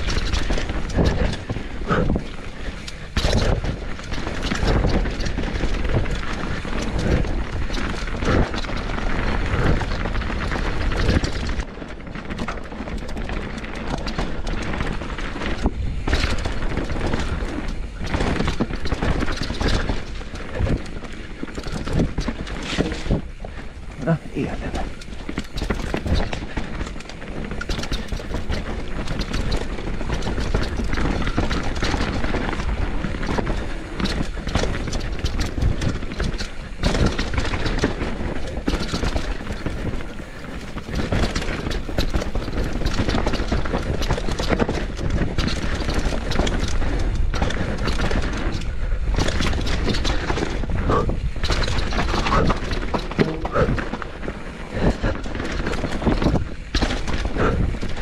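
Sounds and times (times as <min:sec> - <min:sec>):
bike chain and frame rattling: 0:00.0 - 0:58.0
bike tyres rumbling over dirt: 0:00.0 - 0:58.0
wind buffeting the microphone: 0:00.0 - 0:58.0.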